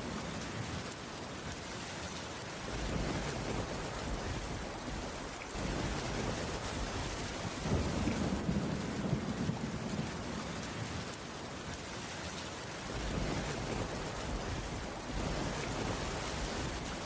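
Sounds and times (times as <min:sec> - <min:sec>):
rain on a wooden roof: 0:00.0 - 0:17.0.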